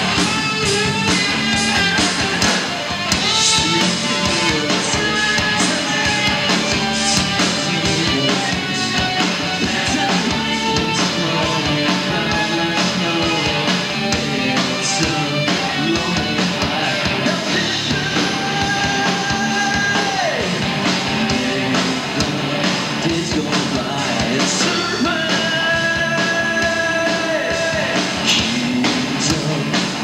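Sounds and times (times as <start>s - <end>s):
drums: 0.0s - 30.0s
electric guitars: 0.0s - 30.0s
person singing: 0.0s - 30.0s.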